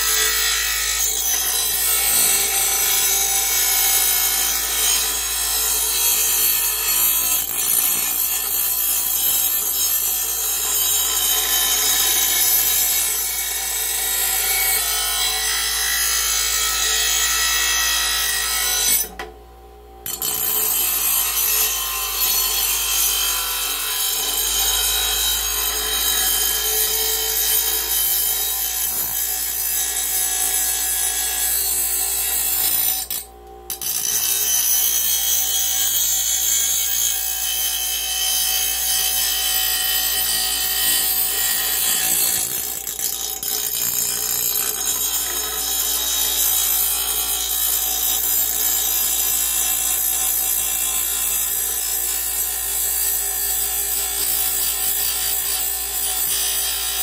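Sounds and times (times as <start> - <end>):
bench grinder grinding metal: 0.0 - 19.3, 20.0 - 57.0.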